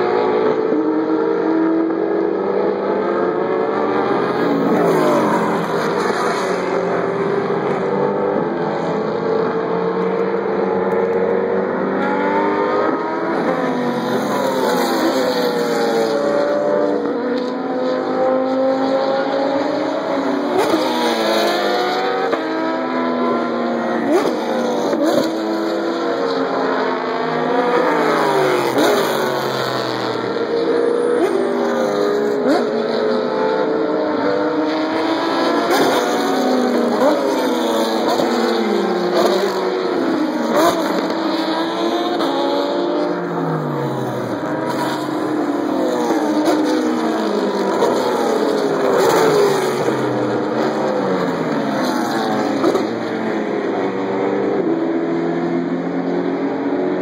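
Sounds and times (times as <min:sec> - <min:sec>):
race cars passing at speed: 0:00.0 - 0:57.0.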